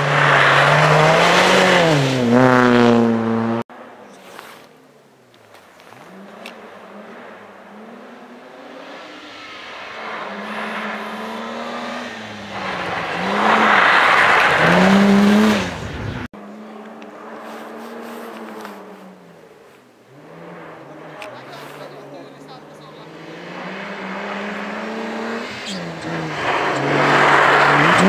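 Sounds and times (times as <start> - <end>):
rally car engine revving: 0.0 - 3.7, 5.9 - 28.0
distant rally car revving: 0.0 - 4.5, 5.5 - 28.0
tyre and road noise: 0.0 - 28.0.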